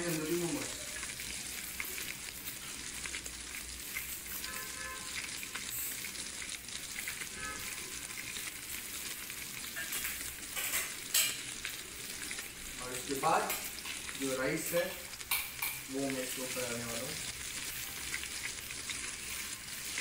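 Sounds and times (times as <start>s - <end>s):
food sizzling on a hot plate: 0.0s - 20.0s.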